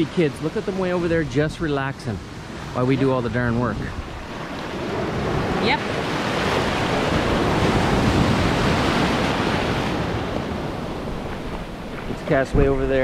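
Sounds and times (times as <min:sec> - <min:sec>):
ocean surf on sandy beach: 0:00.0 - 0:13.0.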